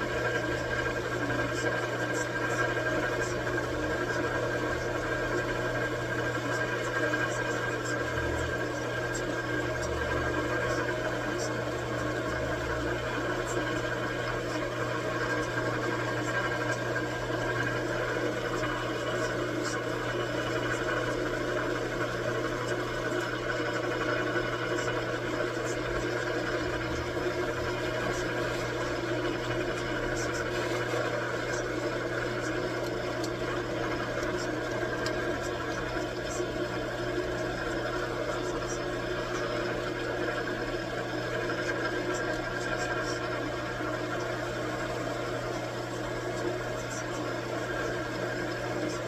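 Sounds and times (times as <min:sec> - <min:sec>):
machine tool humming: 0:00.0 - 0:49.0.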